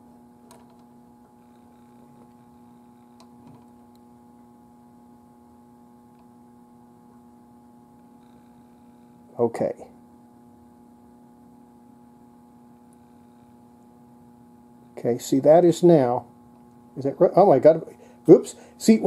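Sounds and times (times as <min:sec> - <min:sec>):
mains hum: 0:00.0 - 0:19.0.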